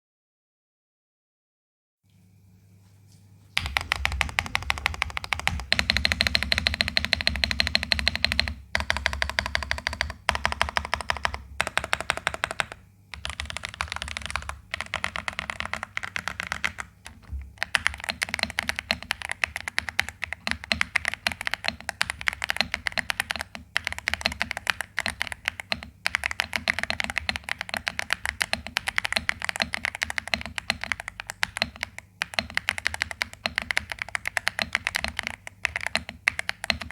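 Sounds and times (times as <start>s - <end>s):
mechanical keyboard typing: 3.6s - 36.9s.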